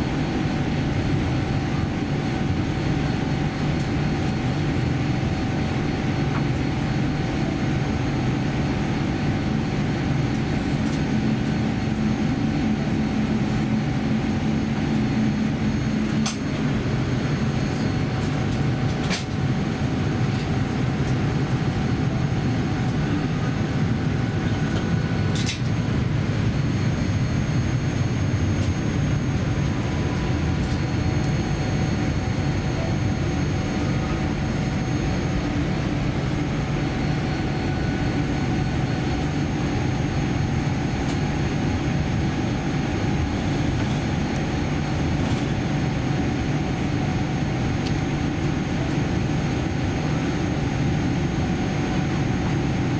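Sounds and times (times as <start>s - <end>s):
airliner cabin rumble: 0.0s - 52.9s
faint steady whine: 0.0s - 52.9s.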